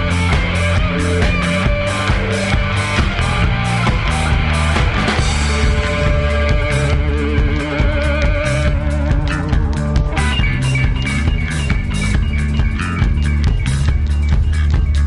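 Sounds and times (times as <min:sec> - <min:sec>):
bass guitar: 0:00.0 - 0:15.0
drum kit beat: 0:00.0 - 0:15.0
electric guitar: 0:00.0 - 0:15.0.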